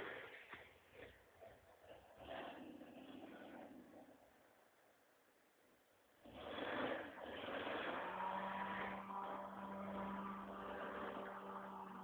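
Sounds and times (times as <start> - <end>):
van engine driving off-road: 0.0 - 12.0.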